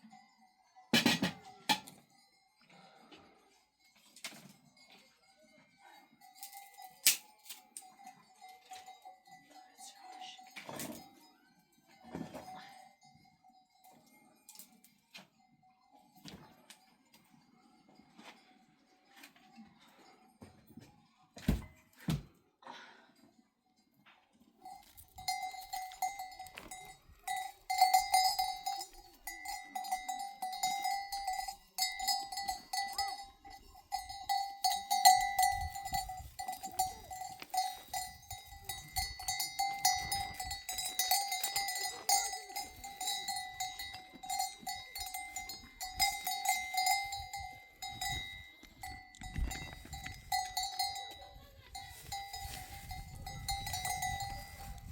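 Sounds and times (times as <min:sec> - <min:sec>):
metal bells jangling: 0:00.0 - 0:16.2, 0:24.5 - 0:54.9.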